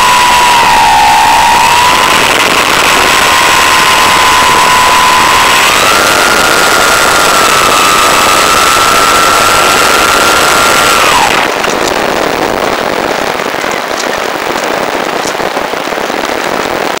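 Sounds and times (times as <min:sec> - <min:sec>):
electric motor and propeller whine: 0:00.0 - 0:16.6
rush of air: 0:00.0 - 0:17.0.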